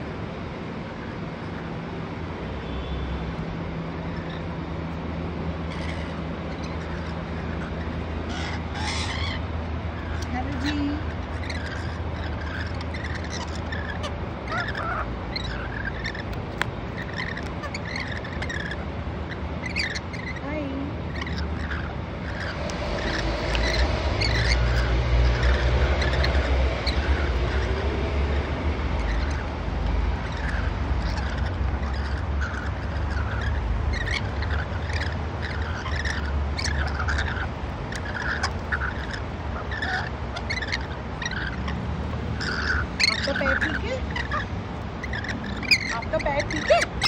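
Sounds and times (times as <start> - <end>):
lorikeets chirping: 0.0 - 47.0
low background rumble: 0.0 - 47.0
steady low hum: 0.0 - 47.0.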